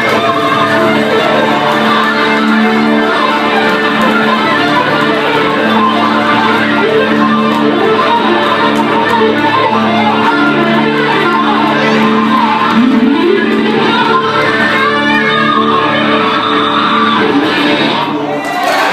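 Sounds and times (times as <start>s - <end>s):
acoustic guitars playing: 0.0s - 18.2s.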